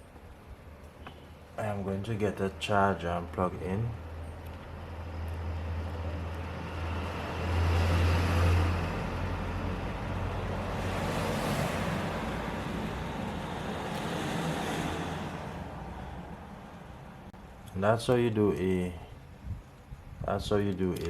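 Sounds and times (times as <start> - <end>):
road traffic hum: 0.0 - 21.0
vehicles passing: 0.0 - 21.0.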